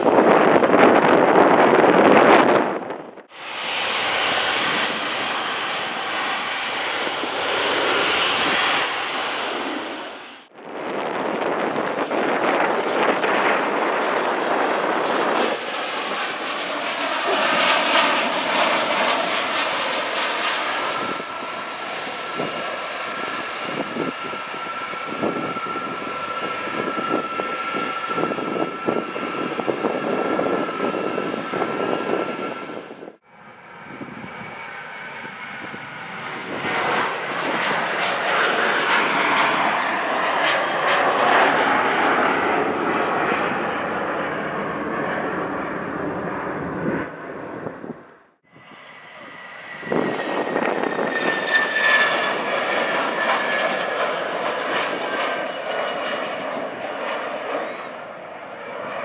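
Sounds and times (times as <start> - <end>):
jet engines landing: 0.0 - 59.0
jet airliner climbing out: 11.2 - 59.0.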